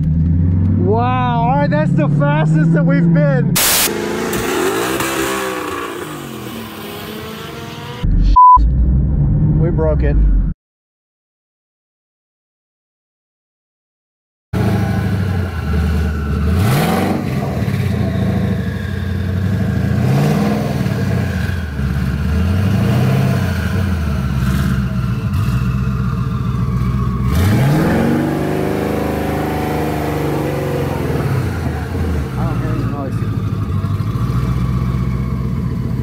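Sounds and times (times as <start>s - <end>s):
car engine revving: 0.0s - 10.4s, 14.6s - 36.0s.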